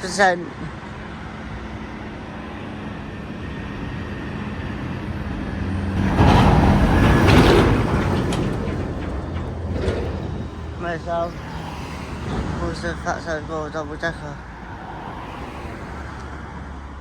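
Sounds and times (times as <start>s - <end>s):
bus engine humming: 0.0s - 17.0s.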